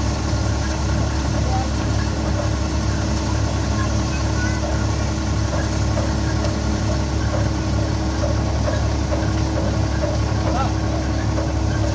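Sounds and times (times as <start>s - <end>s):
thresher drum and blower turning: 0.0s - 11.9s.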